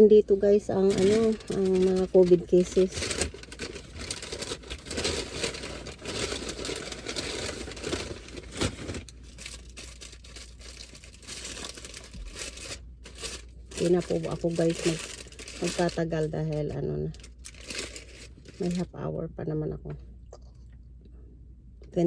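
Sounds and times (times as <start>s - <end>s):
paper packaging crinkling: 0.1s - 19.0s.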